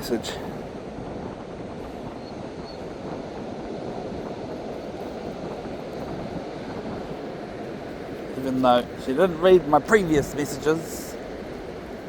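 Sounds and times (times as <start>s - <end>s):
surf rushing: 0.0s - 12.0s
wind on the microphone: 0.0s - 12.0s.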